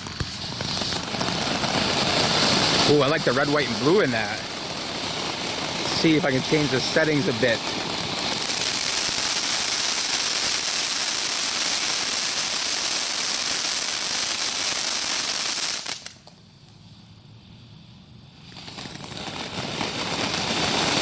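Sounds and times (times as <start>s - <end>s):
firework fountain hissing: 0.0s - 21.0s.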